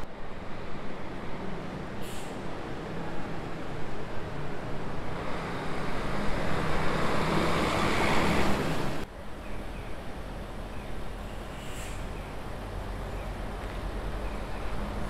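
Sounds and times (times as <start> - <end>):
bus driving past: 0.0 - 15.0
street traffic: 0.0 - 15.0.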